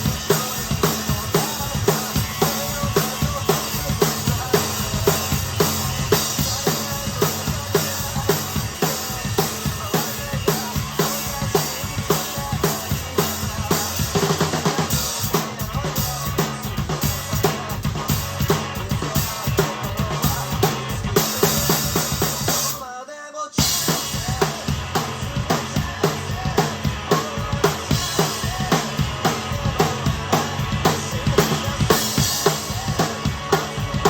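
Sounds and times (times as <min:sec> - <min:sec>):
backing track: 0:00.0 - 0:22.8, 0:23.6 - 0:34.0
rock drum beat: 0:00.0 - 0:22.8, 0:23.6 - 0:34.0.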